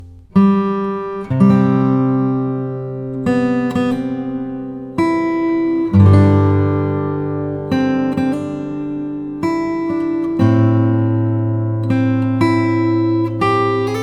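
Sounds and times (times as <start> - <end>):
acoustic guitar chords ringing: 0.0 - 14.0.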